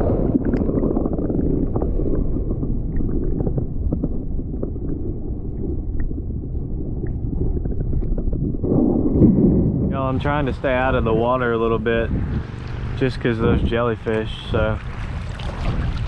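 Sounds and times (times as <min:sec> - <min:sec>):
muffled underwater surf rumble: 0:00.0 - 0:16.0.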